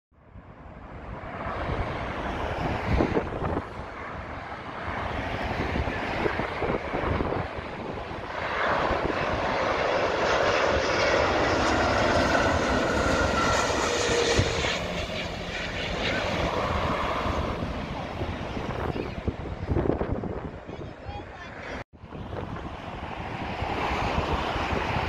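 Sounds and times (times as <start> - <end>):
jet engines passing overhead: 0.2 - 25.0.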